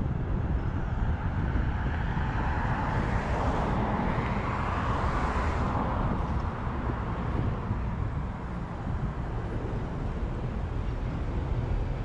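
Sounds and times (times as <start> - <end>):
passing car tyre noise: 0.0 - 12.0
wind rumbling on microphone: 0.0 - 12.0.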